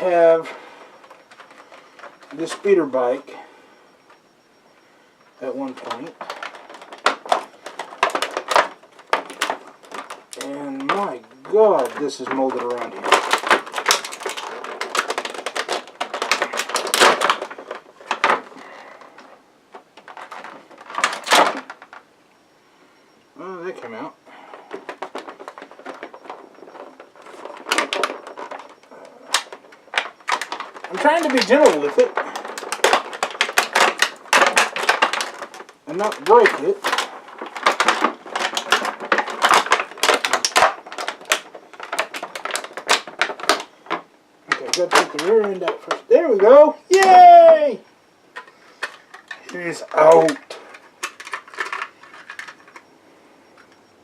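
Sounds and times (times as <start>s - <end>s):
plastic packaging crackling and clicking: 0.0s - 22.1s, 23.6s - 54.0s.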